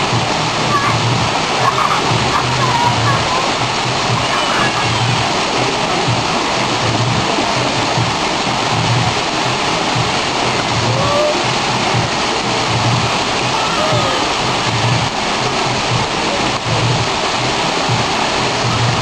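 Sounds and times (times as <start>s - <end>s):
background music beat: 0.0s - 19.0s
water pouring and spraying: 0.0s - 19.0s.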